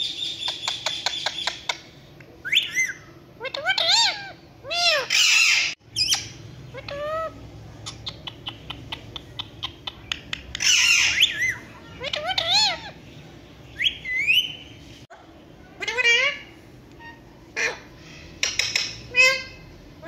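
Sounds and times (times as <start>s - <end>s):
parakeets squawking: 0.2s - 14.8s, 15.7s - 19.8s.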